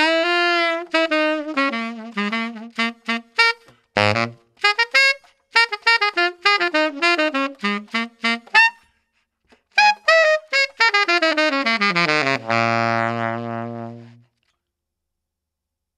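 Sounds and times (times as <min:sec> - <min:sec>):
tenor saxophone playing: 0:00.0 - 0:14.4.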